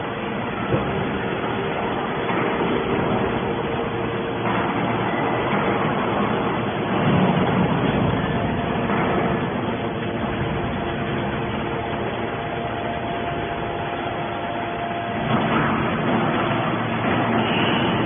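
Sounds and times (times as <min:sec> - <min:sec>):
baler mechanical drone: 0:00.0 - 0:18.0.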